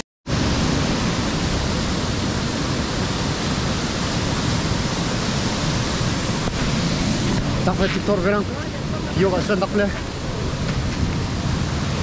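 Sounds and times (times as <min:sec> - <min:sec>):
waterfall rushing: 0:00.3 - 0:12.0.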